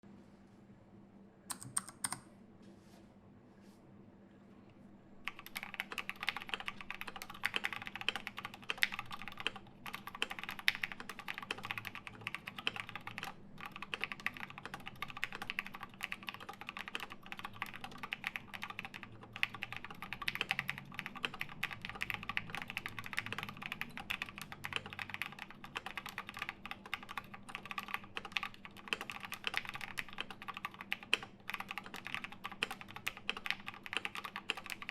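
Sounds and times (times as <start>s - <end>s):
mechanical keyboard typing: 1.5s - 2.3s, 5.2s - 34.9s.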